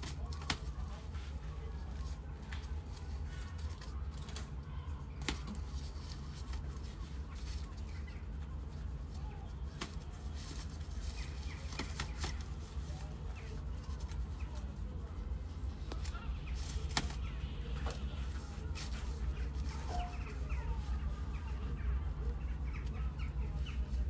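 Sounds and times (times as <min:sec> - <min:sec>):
kittens scuffling on leaves: 0:00.0 - 0:24.0
low outdoor rumble: 0:00.0 - 0:24.0.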